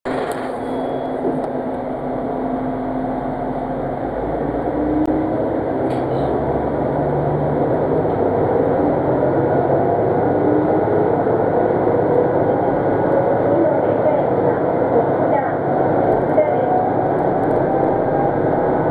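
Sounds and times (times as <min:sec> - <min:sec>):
diesel railcar engine: 0:00.0 - 0:18.9
train running noise: 0:00.0 - 0:18.9.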